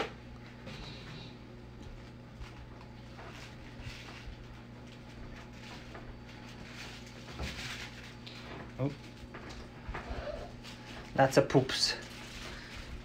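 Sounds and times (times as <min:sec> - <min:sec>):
faint rustling: 0:00.7 - 0:11.2, 0:11.9 - 0:13.0.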